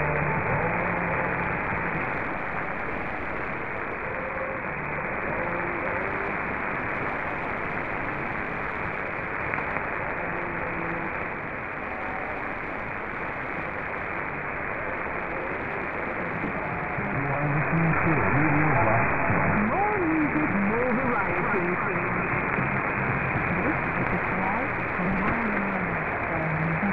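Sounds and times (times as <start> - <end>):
faint radio station audio: 0.0 - 26.9
shortwave radio static hiss: 0.0 - 26.9.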